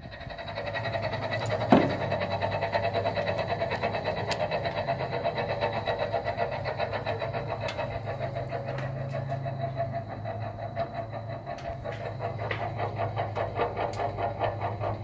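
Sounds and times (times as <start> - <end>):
car engine running: 0.0 - 15.0
faint engine ticks: 0.0 - 15.0.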